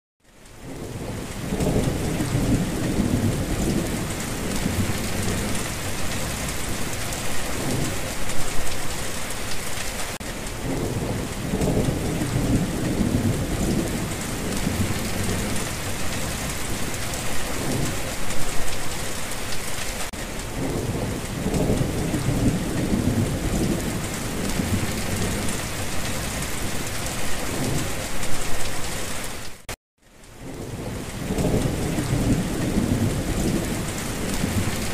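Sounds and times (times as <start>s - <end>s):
heavy rain: 0.2s - 34.9s
rolling thunder rumbles: 0.6s - 8.8s, 10.5s - 18.6s, 20.4s - 28.4s, 30.4s - 34.9s.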